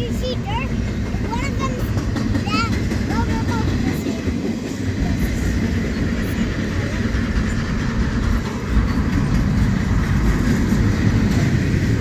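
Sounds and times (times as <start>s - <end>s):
freight train wheels rumbling on rail: 0.0s - 12.0s.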